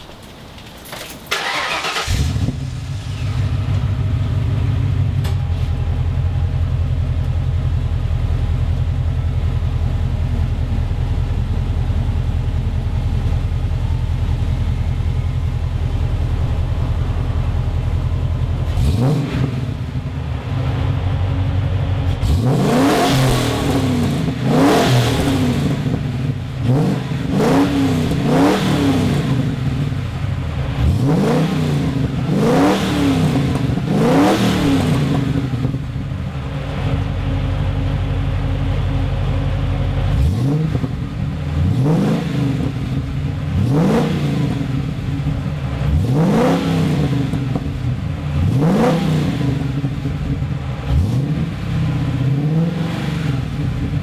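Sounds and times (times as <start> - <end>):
car engine revving and idling: 1.4 - 54.0.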